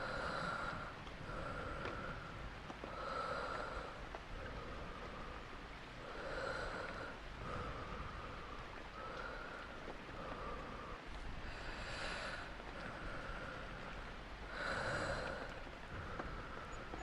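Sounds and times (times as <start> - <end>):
person breathing: 0.0 - 5.5, 6.1 - 13.9, 14.5 - 16.8
steady rain hiss: 0.0 - 17.0.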